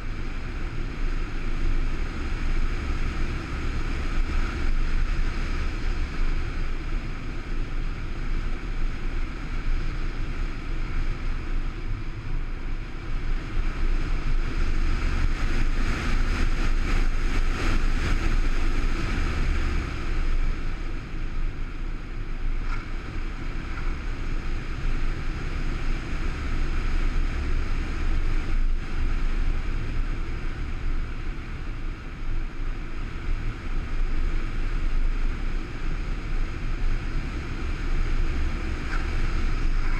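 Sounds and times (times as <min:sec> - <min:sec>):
electric motor and propeller whine: 0:00.0 - 0:39.9
wind rushing over microphone: 0:00.0 - 0:39.9.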